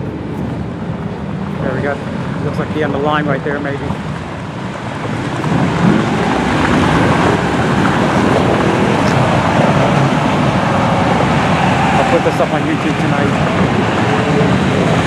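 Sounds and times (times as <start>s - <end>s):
motorcycles and vehicles passing: 0.0s - 15.0s
wind on microphone: 0.0s - 15.0s.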